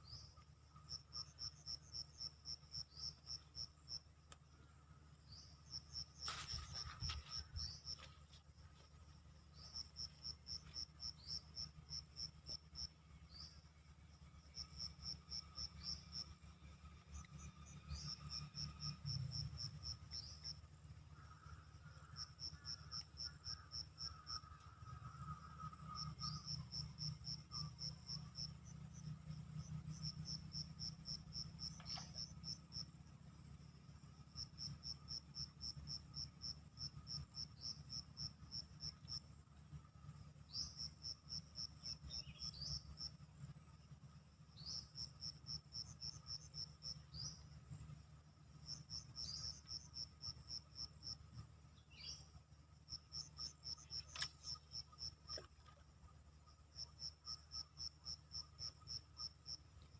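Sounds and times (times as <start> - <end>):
faint low rumble: 0.0 - 59.9
insects chirping: 0.0 - 59.9.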